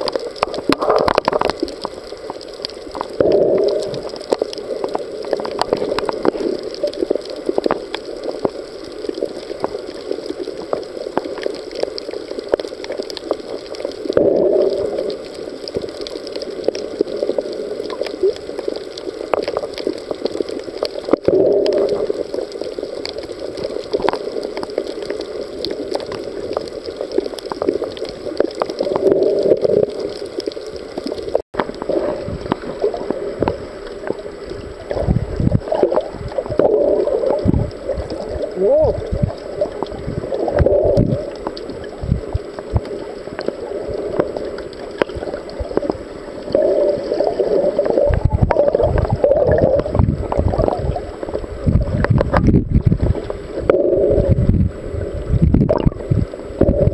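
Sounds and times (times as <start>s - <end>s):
muffled underwater rushing: 0.0s - 56.9s
underwater clicks crackling: 0.0s - 56.9s.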